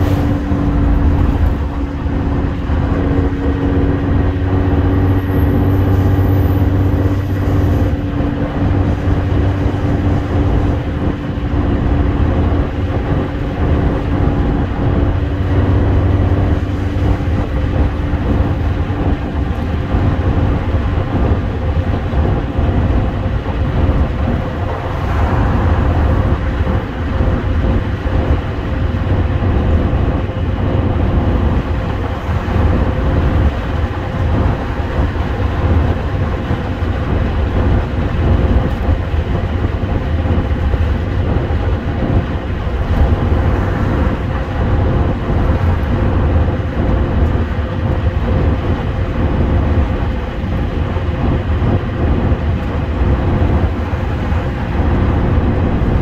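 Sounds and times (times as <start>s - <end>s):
bus diesel engine drone: 0.0s - 56.0s
tyre and road noise: 0.0s - 56.0s.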